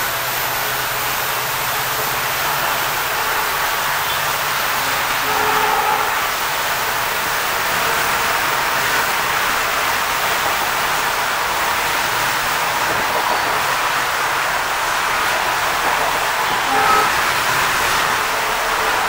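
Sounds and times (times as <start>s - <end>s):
train interior rushing noise: 0.0s - 19.0s.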